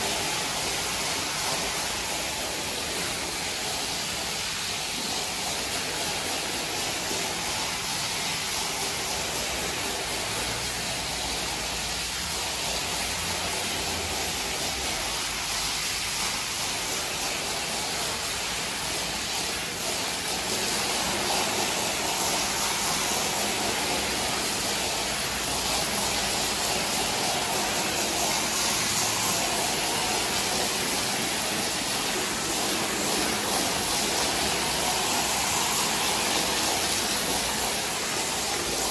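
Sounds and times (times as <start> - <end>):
hose water spraying on rug: 0.0 - 38.9.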